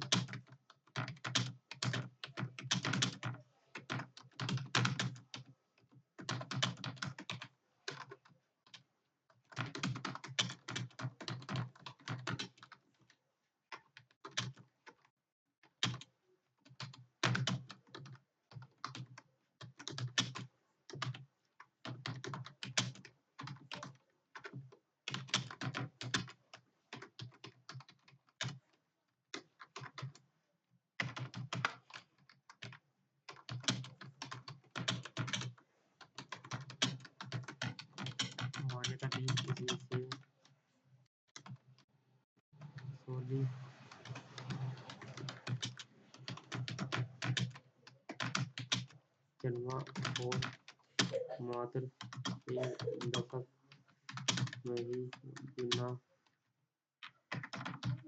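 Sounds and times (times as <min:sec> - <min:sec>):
computer keyboard typing: 0:00.0 - 0:05.5, 0:06.2 - 0:08.9, 0:09.5 - 0:13.1, 0:13.7 - 0:15.0, 0:15.6 - 0:21.2, 0:21.8 - 0:28.6, 0:29.3 - 0:30.2, 0:31.0 - 0:40.2, 0:44.0 - 0:53.4, 0:54.1 - 0:56.0, 0:57.0 - 0:58.0.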